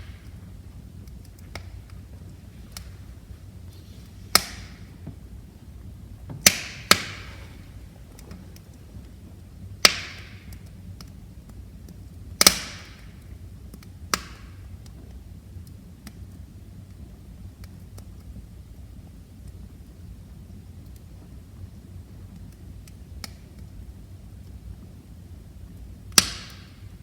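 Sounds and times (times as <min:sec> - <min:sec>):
low rush of flames: 0:00.0 - 0:26.1
burning logs popping: 0:00.0 - 0:27.0.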